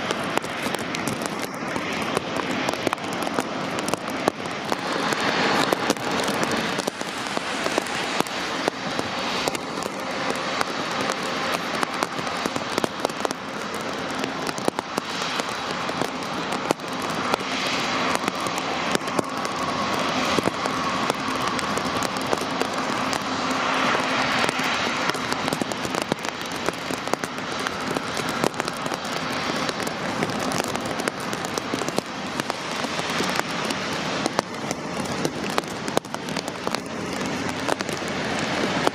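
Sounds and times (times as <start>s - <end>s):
heavy rain pattering: 0.0s - 38.9s
jet engines whining: 0.0s - 38.9s.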